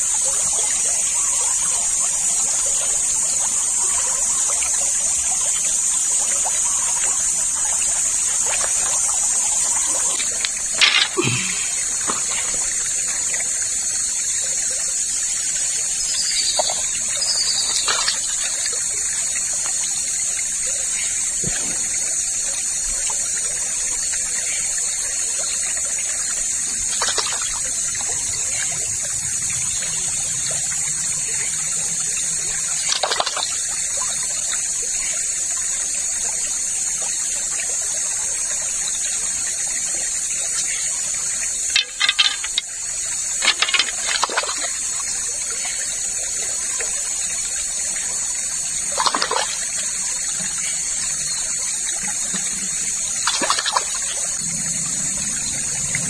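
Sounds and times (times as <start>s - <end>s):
river flowing over stones: 0.0s - 56.0s.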